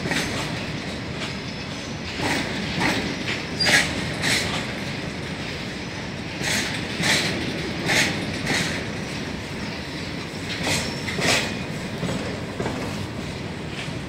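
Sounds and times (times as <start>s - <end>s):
freight train rolling past: 0.0s - 14.0s
wheels clacking over rail joint: 0.0s - 14.0s.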